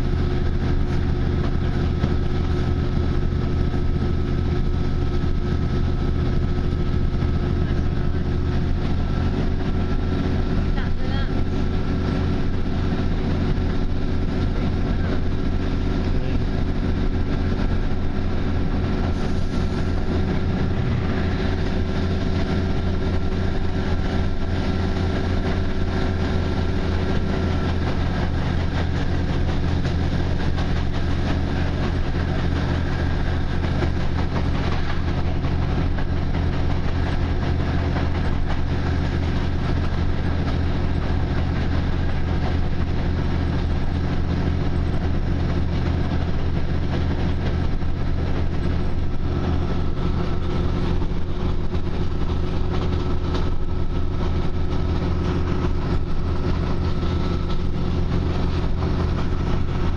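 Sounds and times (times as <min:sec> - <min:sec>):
train engine drone inside carriage: 0:00.0 - 0:59.9.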